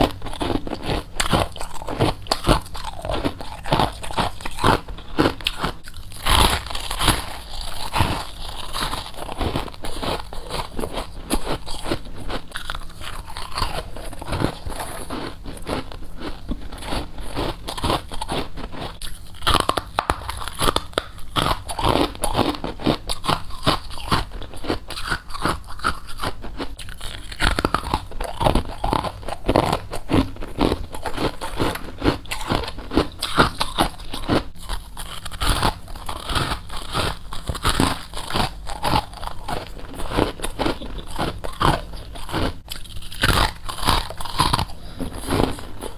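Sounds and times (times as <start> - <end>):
crunching frost between teeth: 0.0 - 45.9.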